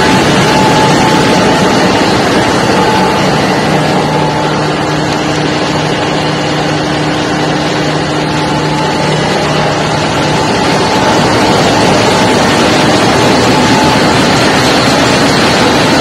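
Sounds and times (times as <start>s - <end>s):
large engine machinery din: 0.0s - 16.0s
low hum: 0.0s - 16.0s.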